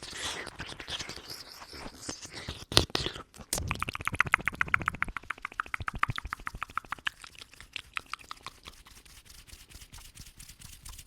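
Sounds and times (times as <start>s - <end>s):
tongue and lip clicks: 0.0s - 9.1s.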